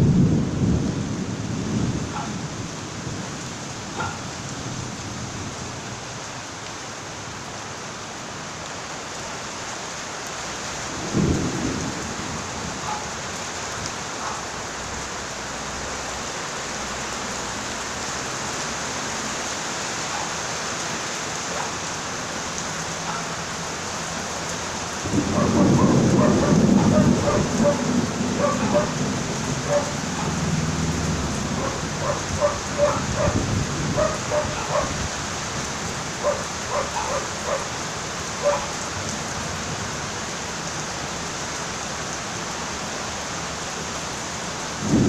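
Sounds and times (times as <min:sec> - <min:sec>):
rain falling: 0:00.0 - 0:45.0.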